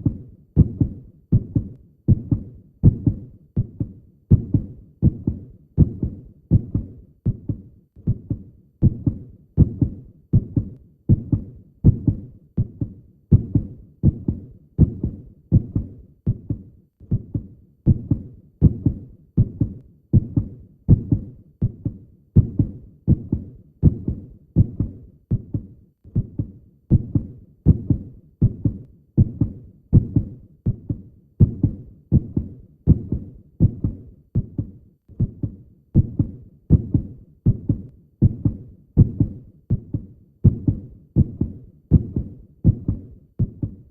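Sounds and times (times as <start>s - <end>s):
heartbeat thuds: 0.0s - 43.9s.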